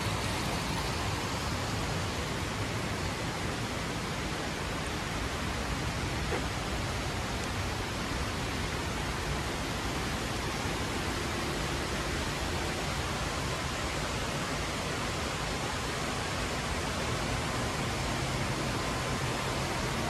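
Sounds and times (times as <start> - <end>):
steady rushing hiss: 0.0 - 20.0.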